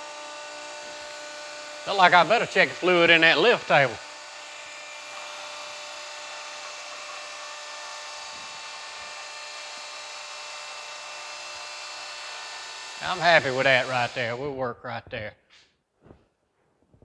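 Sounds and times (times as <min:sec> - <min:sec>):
small electric motor whirring: 0:00.0 - 0:14.4.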